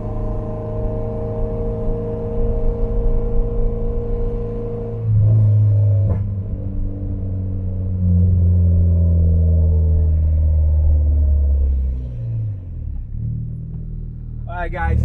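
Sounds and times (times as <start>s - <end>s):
car exhaust drone from inside: 0.0s - 15.0s.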